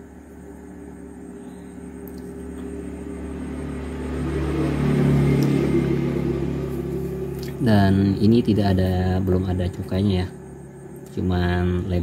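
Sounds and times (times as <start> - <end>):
passing vehicle engine hum: 1.8 - 12.0.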